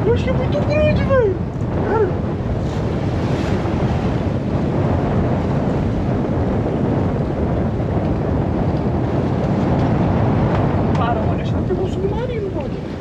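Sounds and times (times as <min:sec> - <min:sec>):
waves on open sea: 0:00.0 - 0:13.0
wind buffeting microphone: 0:00.0 - 0:13.0.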